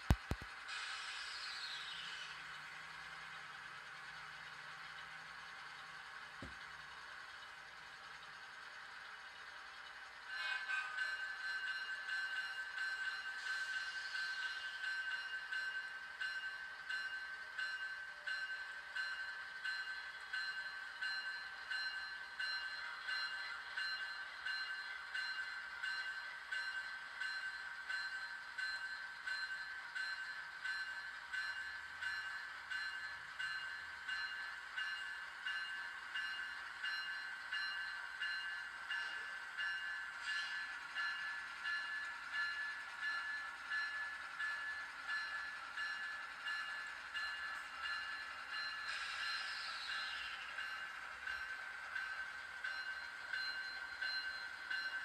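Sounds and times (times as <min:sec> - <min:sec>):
railroad crossing bell ringing: 0:01.3 - 0:55.0.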